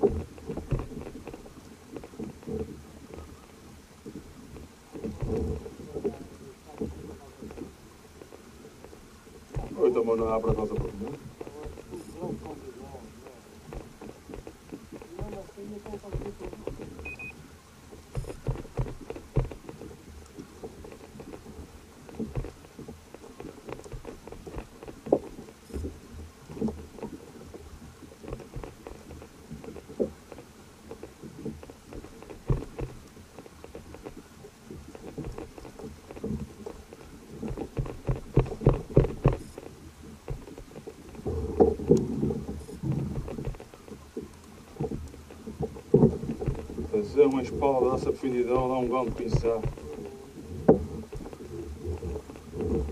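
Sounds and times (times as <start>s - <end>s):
water slapping against kayak hull: 0.0s - 52.9s.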